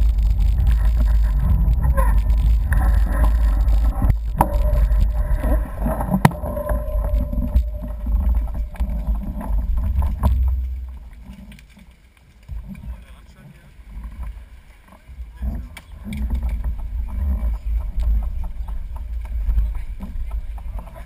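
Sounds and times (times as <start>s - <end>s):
wind buffeting microphone: 0.0s - 11.5s, 12.5s - 21.0s.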